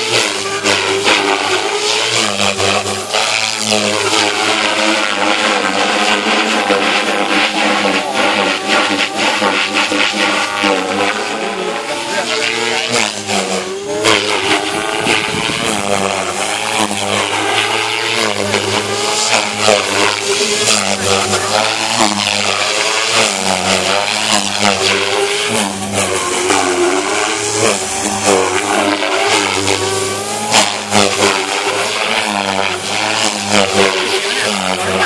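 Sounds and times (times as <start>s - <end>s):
rc helicopter rotor buzz and motor whine: 0.0s - 35.0s.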